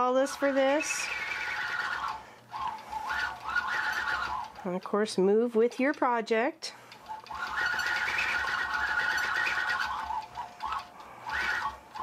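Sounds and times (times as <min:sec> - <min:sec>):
machine whine: 0:00.0 - 0:04.6, 0:06.9 - 0:12.0
quilting machine stitching: 0:00.1 - 0:04.9, 0:07.0 - 0:12.0.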